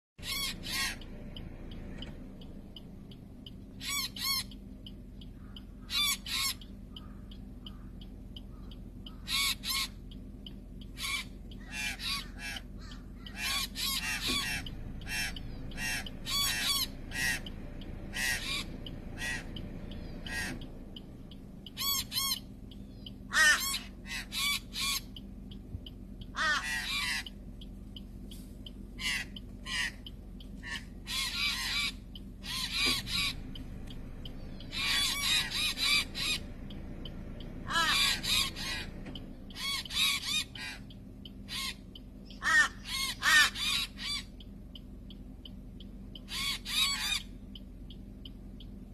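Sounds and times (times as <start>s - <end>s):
birds calling: 0.2s - 48.9s.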